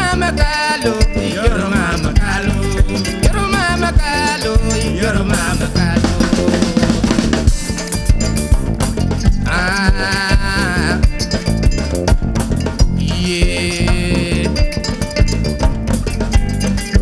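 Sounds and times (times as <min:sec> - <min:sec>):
djembe hand-drum strokes: 0:00.0 - 0:17.0
electric bass: 0:00.0 - 0:17.0
kora: 0:00.0 - 0:17.0
wavering melody line: 0:00.0 - 0:17.0.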